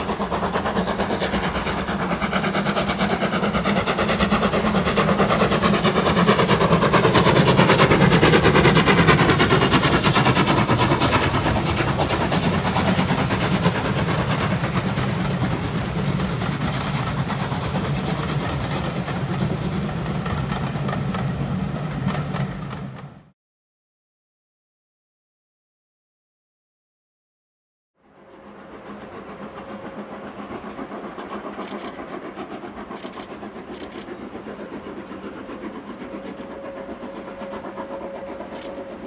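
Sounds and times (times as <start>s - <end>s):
steam locomotive chuffing: 0.0s - 23.3s, 28.1s - 39.0s.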